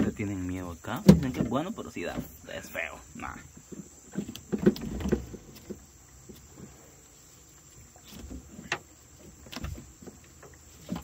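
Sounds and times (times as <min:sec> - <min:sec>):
high insect whine: 0:00.0 - 0:11.0.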